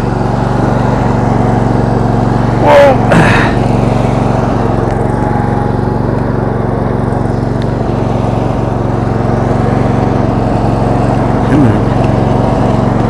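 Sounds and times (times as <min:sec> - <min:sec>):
lawn tractor engine running: 0:00.0 - 0:13.0.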